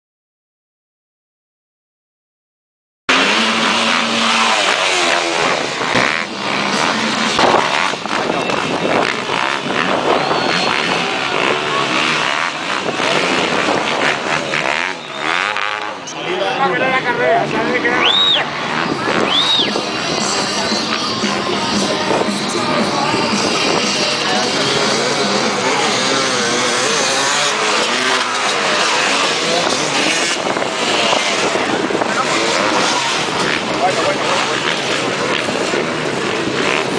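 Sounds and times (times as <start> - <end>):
dirt bike engines revving: 3.1 - 36.9.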